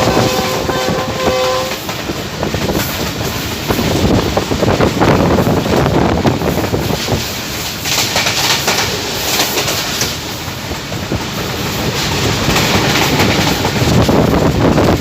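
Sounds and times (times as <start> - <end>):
train wheels rumbling on rails: 0.0 - 15.0
clatter over rail joints: 1.4 - 15.0
rushing air: 1.8 - 15.0.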